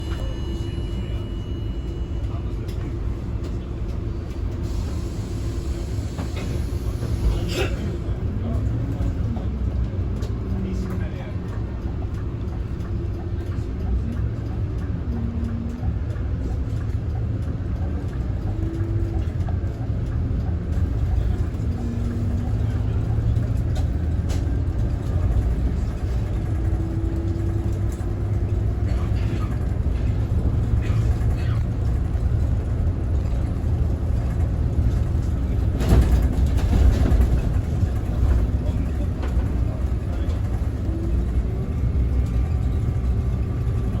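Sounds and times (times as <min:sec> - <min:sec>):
bus engine and road rumble: 0:00.0 - 0:44.0.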